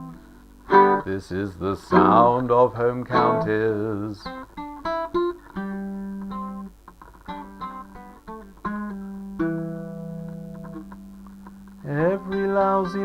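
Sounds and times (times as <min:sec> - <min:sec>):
acoustic guitar plucked notes: 0:00.0 - 0:06.7, 0:07.3 - 0:13.0.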